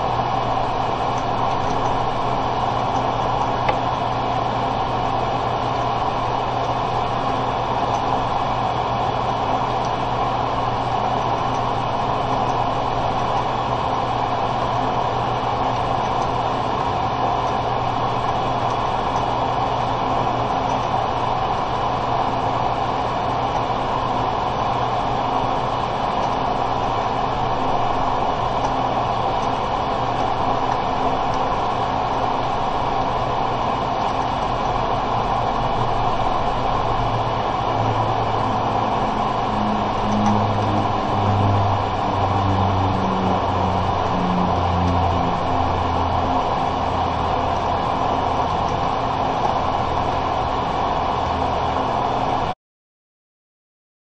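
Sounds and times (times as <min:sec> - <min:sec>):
low hum: 0:00.0 - 0:52.5
steady noise: 0:00.0 - 0:52.6.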